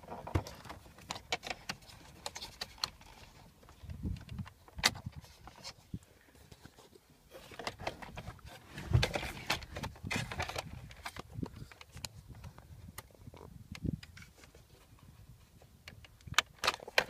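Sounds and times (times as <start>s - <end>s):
plastic connectors clicking and rustling: 0.0s - 5.8s, 7.4s - 14.6s, 15.7s - 17.0s.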